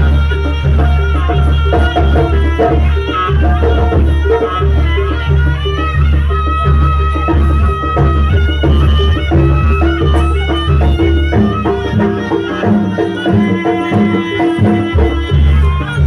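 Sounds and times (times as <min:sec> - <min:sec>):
drums: 0:00.0 - 0:16.0
gong percussion: 0:00.0 - 0:16.0
shrill reed shawm melody: 0:00.0 - 0:16.0.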